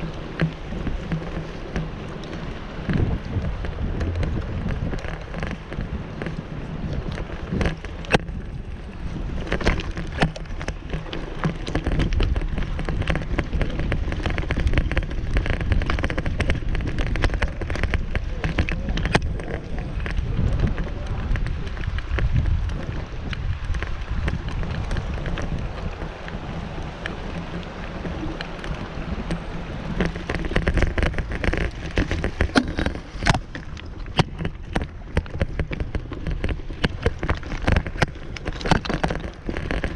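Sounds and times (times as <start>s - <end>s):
bicycle clicks and knocks: 0.0s - 39.9s
wind buffeting microphone: 0.0s - 39.9s.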